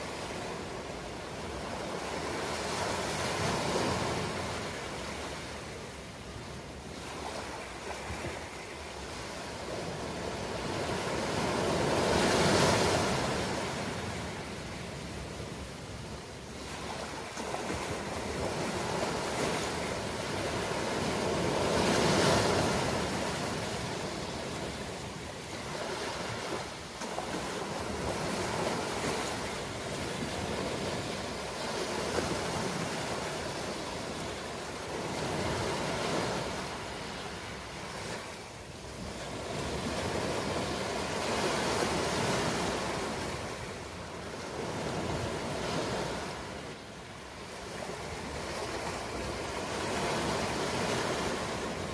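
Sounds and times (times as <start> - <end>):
ocean waves breaking on shore: 0.0 - 51.9.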